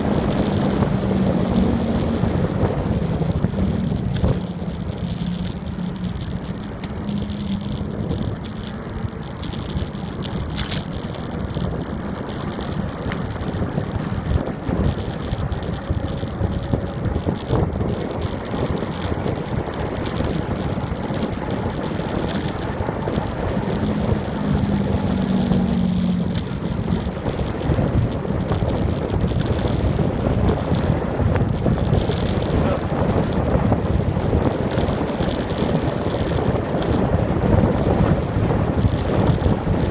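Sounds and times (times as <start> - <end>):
bicycle tyres rolling on asphalt: 0.0 - 39.9
wind rushing over microphone: 0.0 - 39.9.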